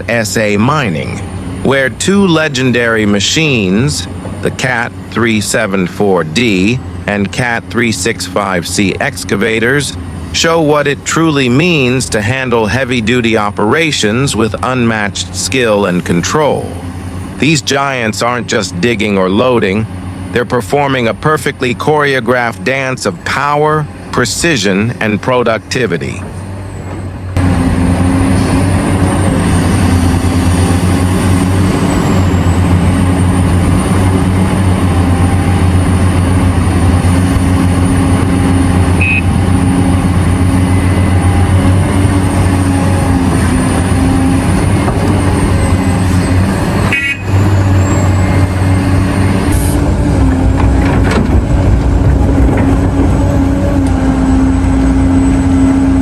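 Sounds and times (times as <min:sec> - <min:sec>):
diesel machinery engine hum: 0:00.0 - 0:56.0.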